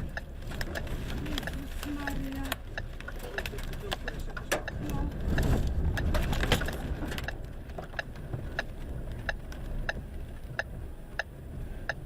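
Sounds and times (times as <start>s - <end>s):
turn signal relay ticking: 0.0s - 12.0s
vehicle low rumble: 0.0s - 12.0s.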